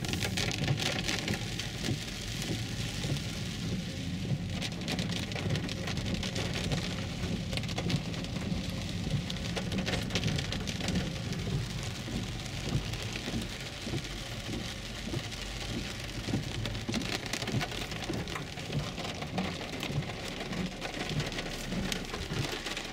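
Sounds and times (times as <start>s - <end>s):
heavy rain on car roof: 0.0s - 22.9s.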